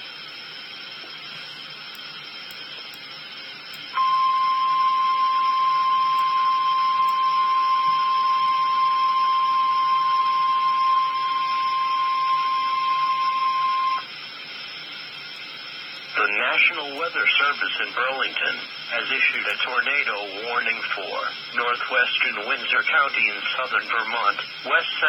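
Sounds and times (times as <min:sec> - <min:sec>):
radio hiss: 0:00.0 - 0:25.0.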